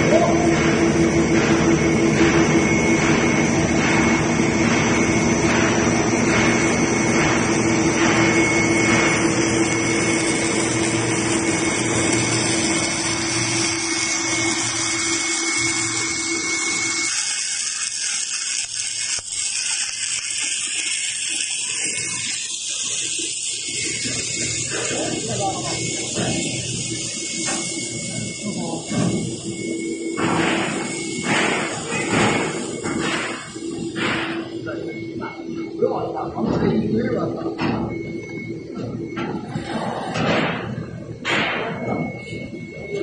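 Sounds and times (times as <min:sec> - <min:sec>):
constant motor hum: 0:00.0 - 0:43.0
machinery running: 0:00.0 - 0:43.0.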